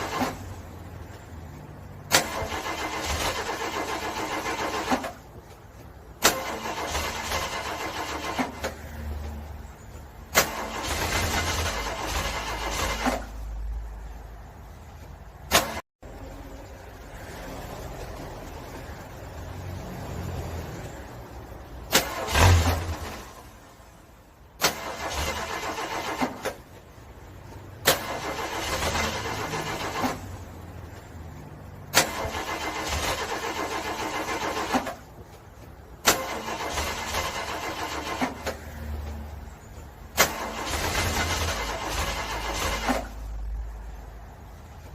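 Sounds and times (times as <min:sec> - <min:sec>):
car engine cranking: 0:00.0 - 0:15.8, 0:21.4 - 0:44.9.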